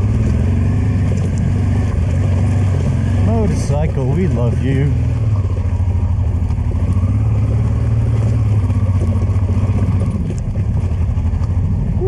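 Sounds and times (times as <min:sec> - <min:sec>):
motorcycle engine running: 0:00.0 - 0:12.0
tires rolling over gravel: 0:00.0 - 0:12.0.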